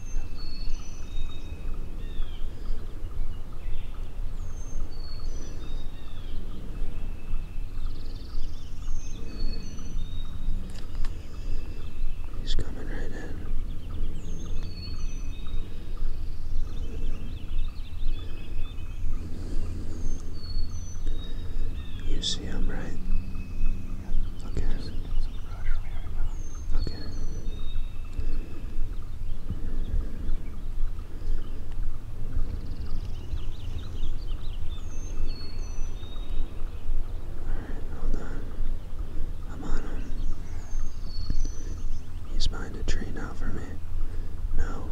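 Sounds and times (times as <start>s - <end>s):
songbirds singing: 0.0s - 44.9s
steady low rumble: 0.0s - 44.9s.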